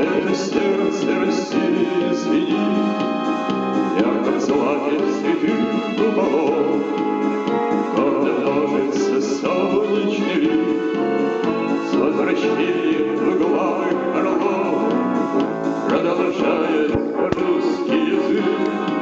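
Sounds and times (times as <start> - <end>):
song with vocals: 0.0 - 19.0.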